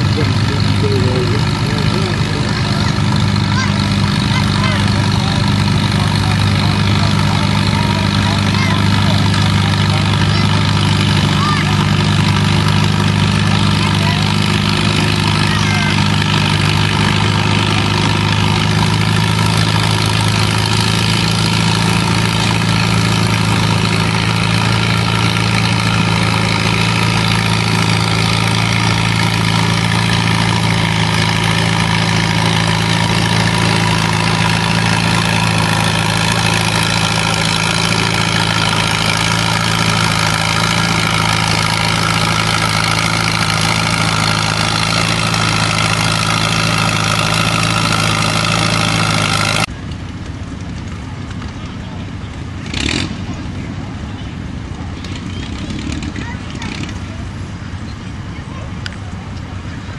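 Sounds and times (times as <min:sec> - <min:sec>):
tractor engines idling: 0:00.0 - 0:59.9.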